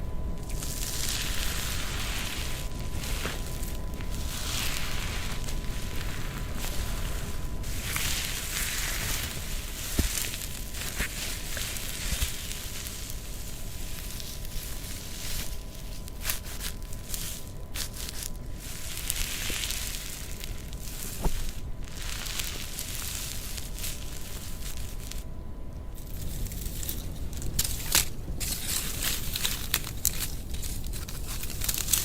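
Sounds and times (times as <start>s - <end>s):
dry material crackling and rustling: 0.0s - 32.0s.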